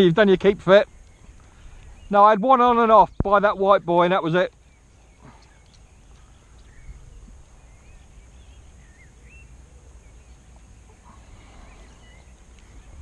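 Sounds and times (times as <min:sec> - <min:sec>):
distant birds chirping: 0:00.0 - 0:13.0.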